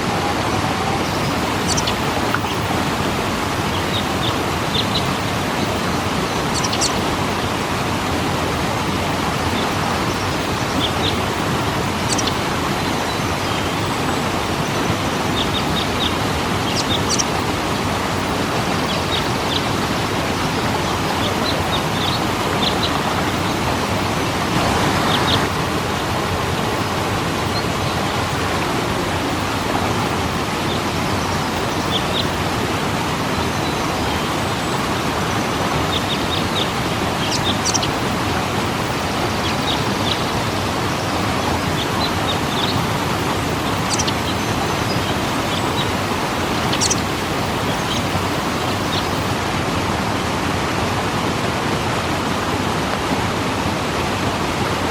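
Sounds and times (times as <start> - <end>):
small birds chirping: 0.0 - 24.1, 25.0 - 49.3
waterfall rushing: 0.0 - 54.9.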